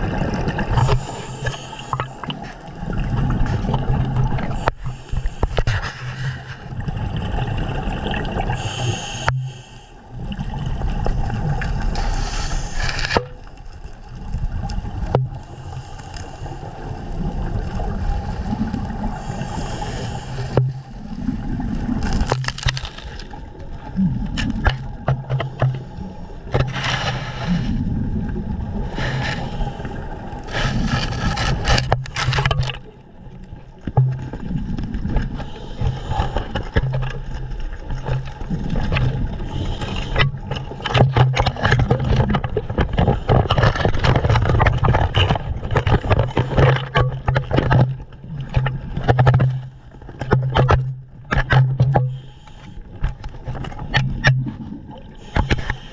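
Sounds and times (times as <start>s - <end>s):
underwater water movement: 0.0s - 55.9s.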